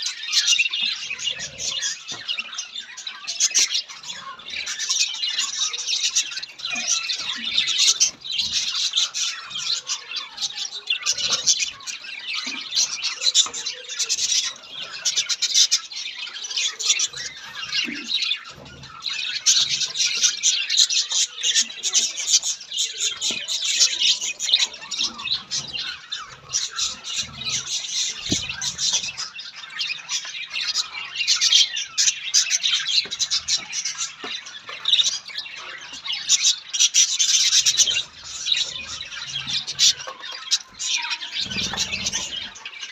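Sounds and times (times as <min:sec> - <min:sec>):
budgerigars chattering and squawking: 0:00.0 - 0:42.9.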